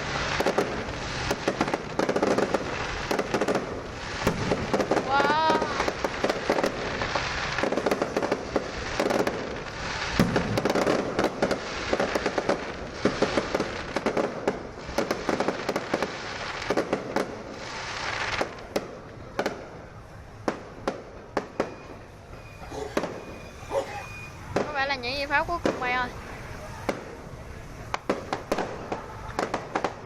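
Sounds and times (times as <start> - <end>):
firework shells bursting: 0.0 - 30.0
fireworks crackling: 0.0 - 30.0.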